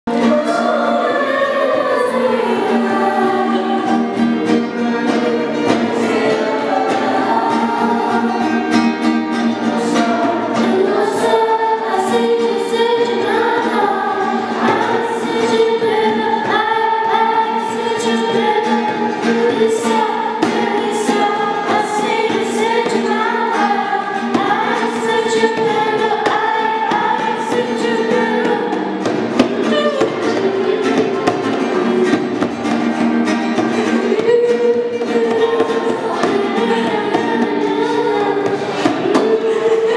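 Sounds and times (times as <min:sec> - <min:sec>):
girls singing together: 0:00.1 - 0:39.9
strummed acoustic guitar: 0:00.1 - 0:39.9
hand drum tapping: 0:02.7 - 0:39.9.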